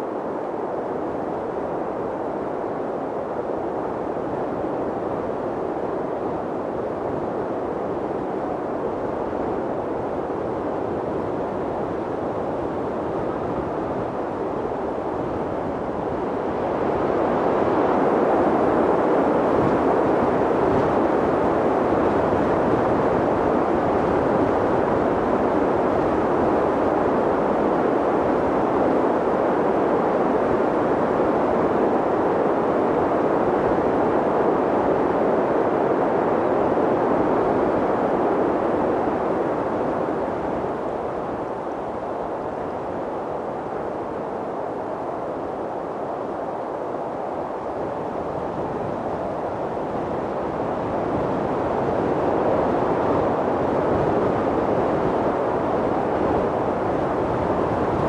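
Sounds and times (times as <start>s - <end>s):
wind blowing: 0.0s - 58.0s.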